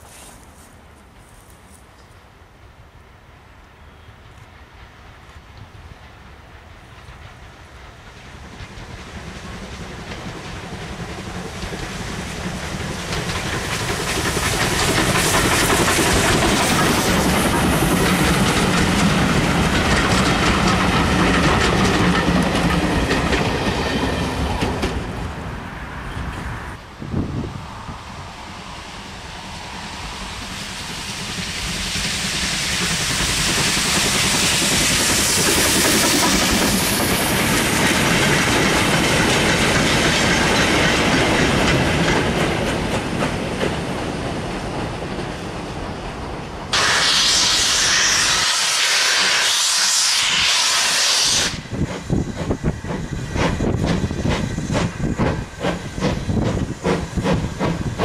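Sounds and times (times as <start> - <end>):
loud steady hiss of steam: 0.0 - 58.0
steam train passing: 0.0 - 58.0
steam locomotive exhaust beats: 3.7 - 46.0, 46.7 - 58.0.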